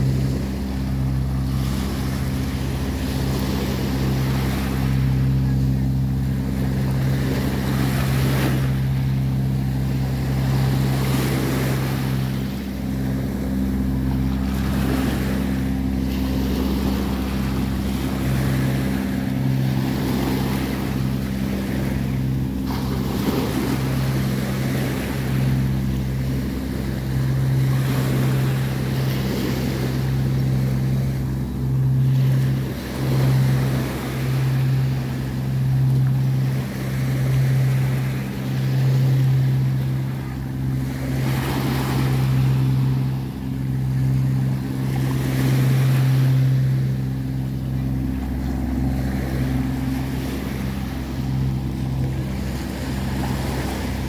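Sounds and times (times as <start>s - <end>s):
low motor hum: 0.0s - 54.0s
waves washing over rocks: 0.0s - 54.0s.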